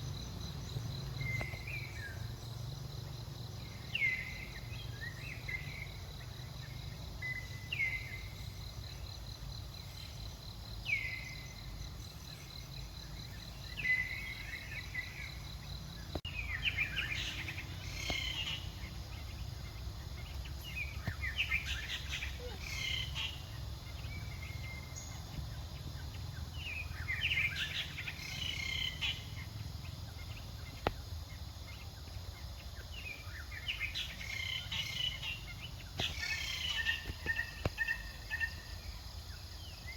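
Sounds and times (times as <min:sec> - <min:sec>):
high twittering calls: 0:00.0 - 0:09.2, 0:09.8 - 0:39.9
low steady rumble: 0:00.0 - 0:36.8.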